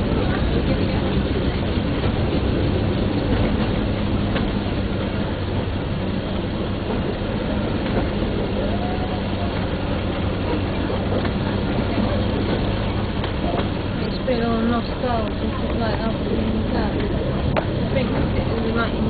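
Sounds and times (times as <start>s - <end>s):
train engine hum and rumble: 0.0s - 19.0s.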